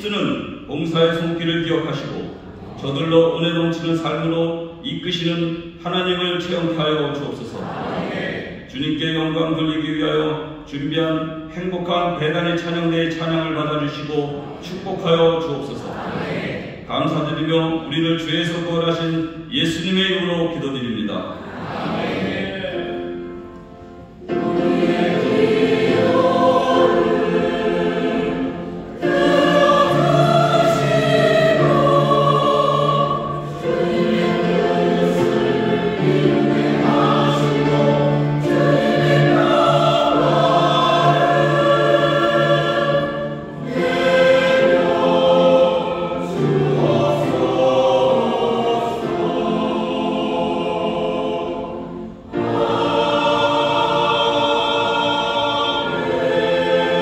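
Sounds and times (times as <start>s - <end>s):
church choir singing: 0.0s - 57.0s.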